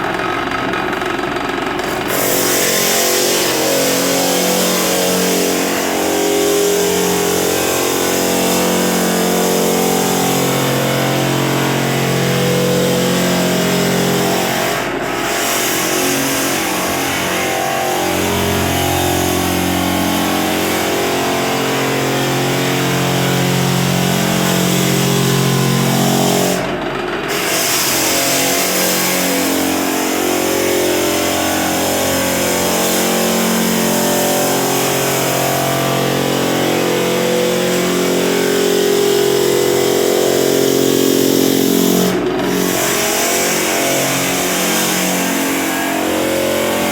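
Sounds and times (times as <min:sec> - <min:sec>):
floor sander running: 0:00.0 - 0:46.9.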